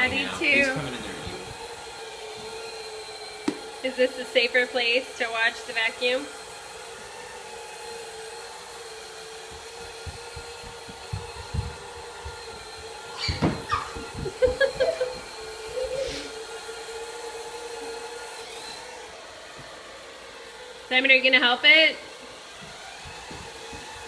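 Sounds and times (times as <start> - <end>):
robot vacuum motor hum: 0.0 - 24.0.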